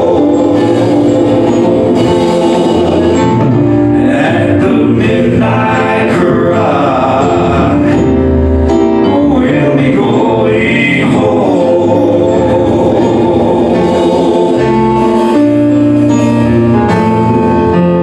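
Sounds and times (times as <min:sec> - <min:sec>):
men singing gospel: 0:00.0 - 0:08.4, 0:09.0 - 0:15.7
acoustic guitar: 0:00.0 - 0:18.0
keyboard: 0:00.0 - 0:18.0.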